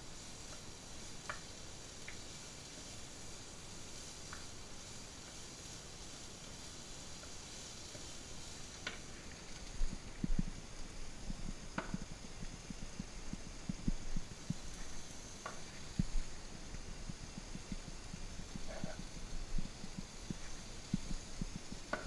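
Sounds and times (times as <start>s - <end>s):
vegetables sizzling in frying pan: 0.0s - 22.0s.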